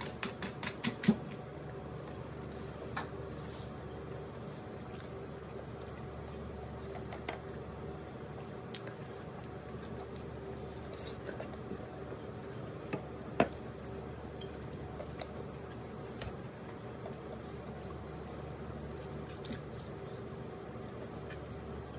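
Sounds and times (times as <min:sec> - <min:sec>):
faint steady hum: 0:00.0 - 0:21.9
wet chewing and smacking: 0:00.0 - 0:21.9.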